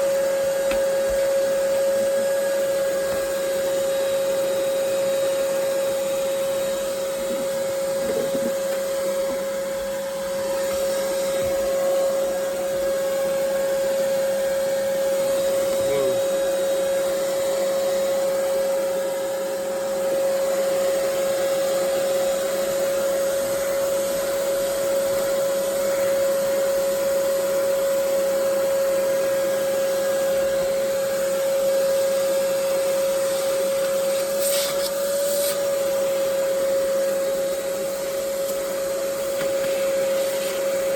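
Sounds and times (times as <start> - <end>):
shop vacuum whining: 0.0 - 40.9.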